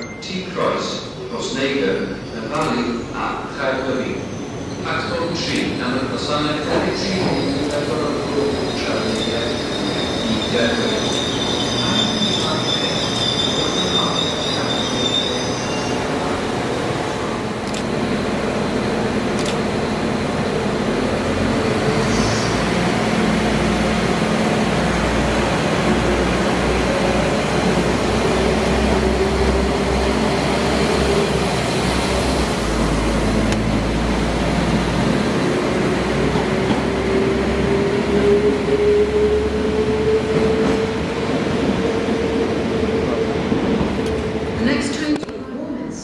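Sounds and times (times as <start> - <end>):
diesel train engine drone: 7.2 - 46.0.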